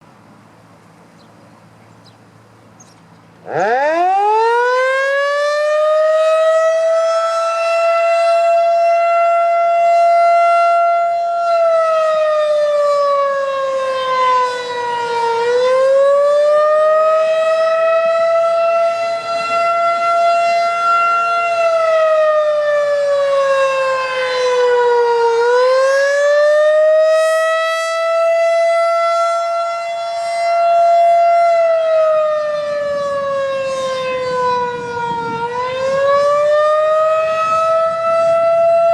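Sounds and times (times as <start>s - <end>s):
warning siren winding up and down: 3.4s - 38.9s.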